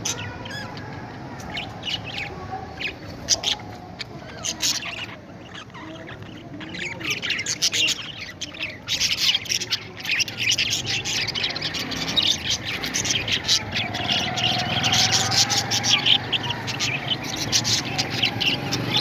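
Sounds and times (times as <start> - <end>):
parrots chirping and chattering: 0.0 - 19.0.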